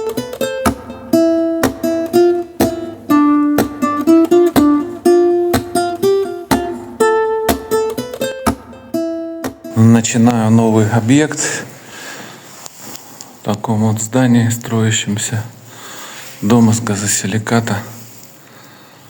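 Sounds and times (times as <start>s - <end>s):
acoustic guitar melody: 0.0s - 18.8s.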